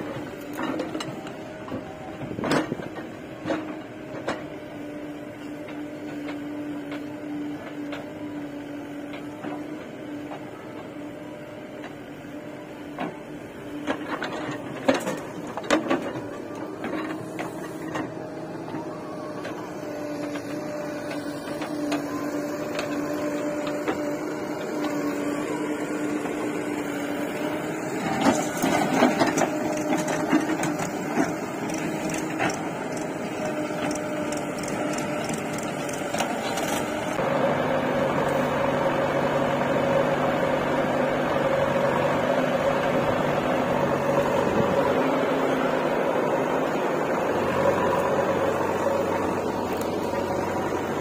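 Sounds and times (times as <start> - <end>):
diesel engines running: 0.0 - 51.0.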